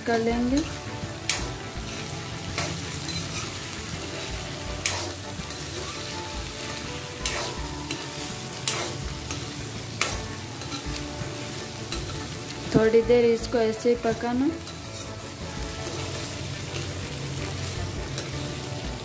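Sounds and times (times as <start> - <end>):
vegetables sizzling in oil: 0.0 - 19.0
metal spoon scraping a pan: 0.4 - 12.6, 14.6 - 18.8.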